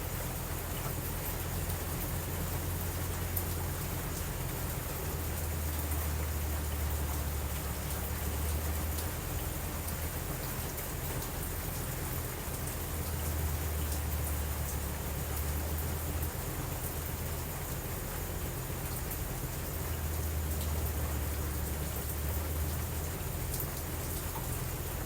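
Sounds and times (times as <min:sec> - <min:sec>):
raindrops ticking: 0:00.0 - 0:25.0
steady rain: 0:00.0 - 0:25.0.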